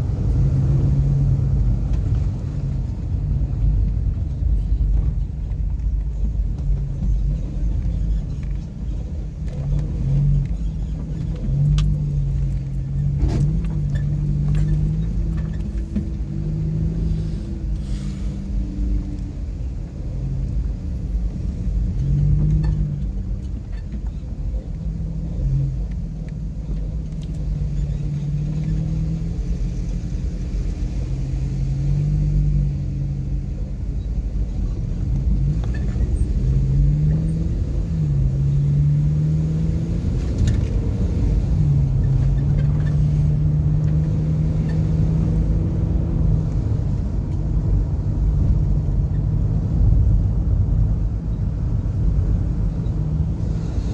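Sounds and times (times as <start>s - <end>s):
car engine revving and shifting gear: 0.0s - 53.9s
road rumble: 0.0s - 53.9s.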